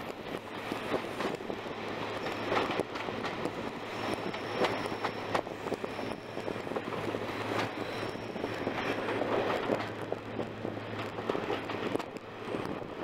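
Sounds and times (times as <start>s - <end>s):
train rushing noise: 0.0s - 13.0s.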